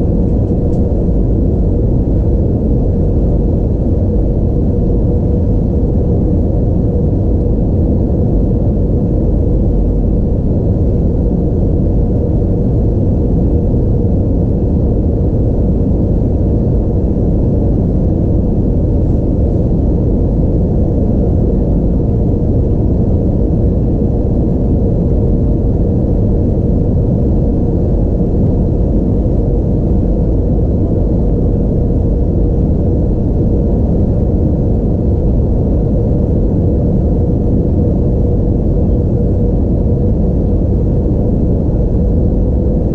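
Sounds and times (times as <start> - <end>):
airplane cabin noise in flight: 0.0 - 42.9
steady hum: 0.0 - 42.9.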